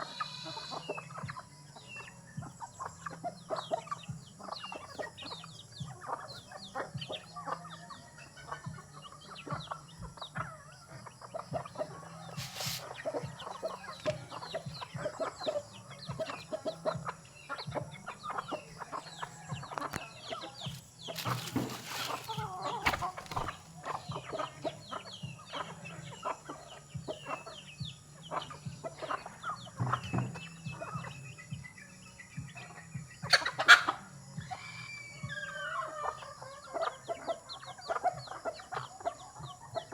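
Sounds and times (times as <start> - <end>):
chickens clucking and peeping: 0.0 - 39.9.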